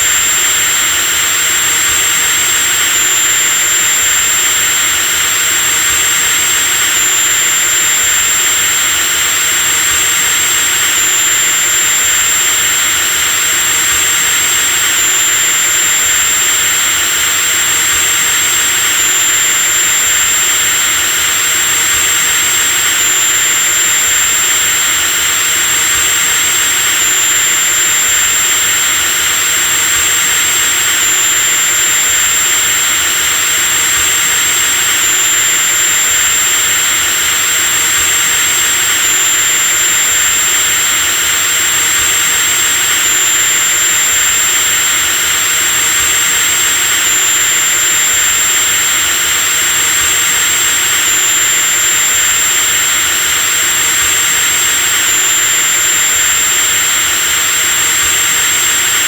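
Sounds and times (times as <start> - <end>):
electric drill motor whine: 0.0 - 59.0.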